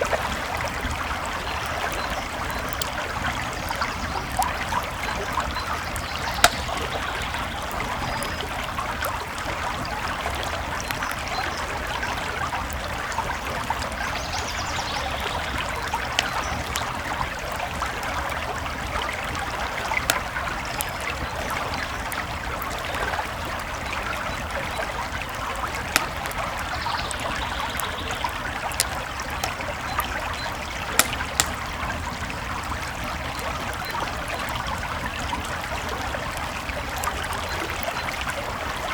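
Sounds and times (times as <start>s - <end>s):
campfire crackling and popping: 0.0s - 38.9s
creek water flowing: 0.0s - 38.9s.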